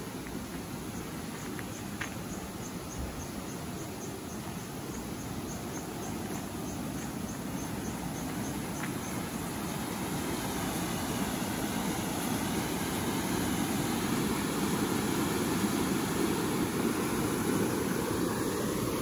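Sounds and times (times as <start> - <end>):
insect chirping: 0.0 - 19.0
stream rushing over rocks: 0.0 - 19.0.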